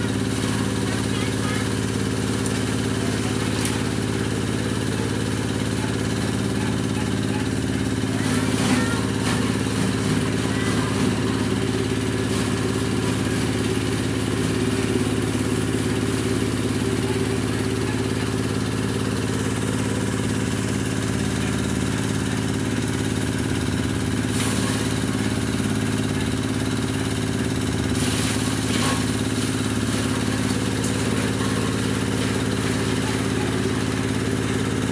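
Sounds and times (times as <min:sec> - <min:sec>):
grass chopper engine drone: 0:00.0 - 0:34.9.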